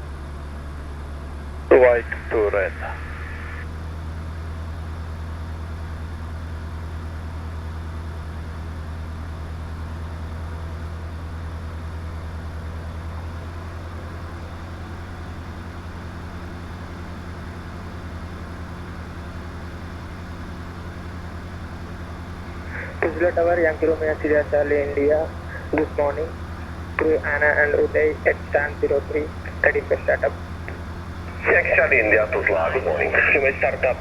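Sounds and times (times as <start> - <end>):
light aircraft engine drone: 0.0 - 34.0.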